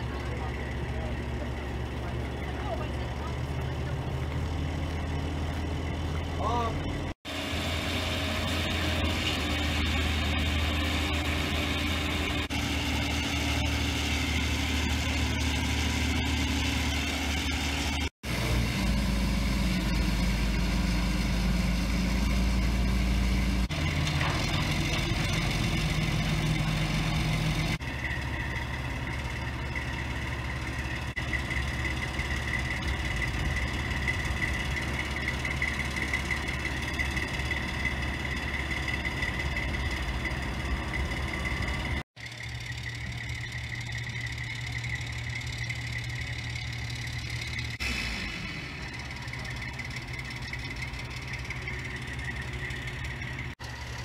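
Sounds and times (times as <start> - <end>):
crane engine running: 0.0 - 54.0.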